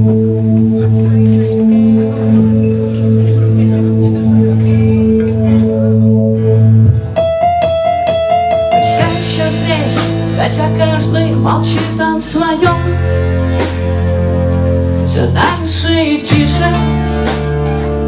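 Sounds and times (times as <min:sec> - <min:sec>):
low keyboard chords: 0:00.0 - 0:18.0
rock band with percussion: 0:00.0 - 0:18.0.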